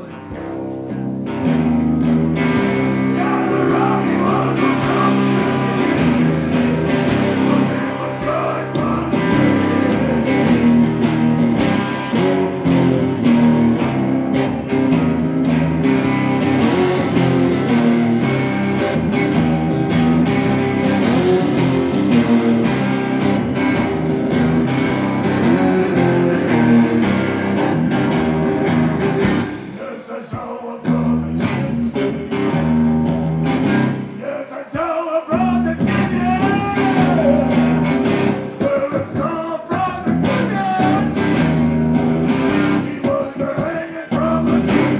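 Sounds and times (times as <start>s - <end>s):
sliding wavering guitar line: 0.0s - 29.8s, 35.7s - 39.2s, 40.0s - 43.2s
electric guitars over drums: 0.0s - 44.9s.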